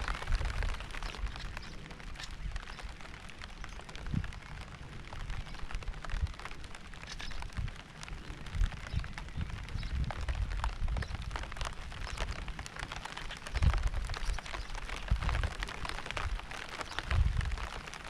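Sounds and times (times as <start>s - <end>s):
raindrops hitting: 0.0s - 18.0s.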